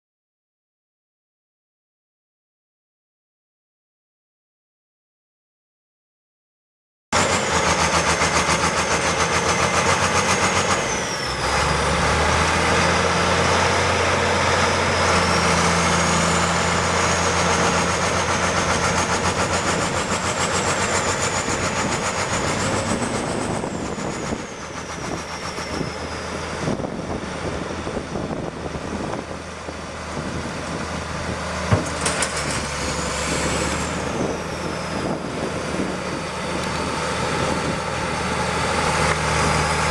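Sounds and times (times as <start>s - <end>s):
excavator diesel engine running: 7.2s - 39.9s.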